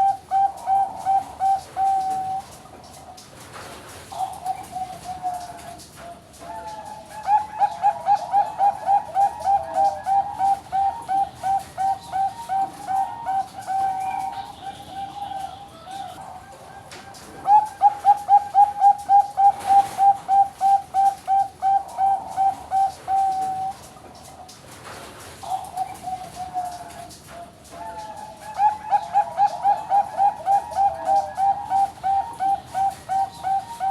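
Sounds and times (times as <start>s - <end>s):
dove cooing song: 0.0s - 33.9s.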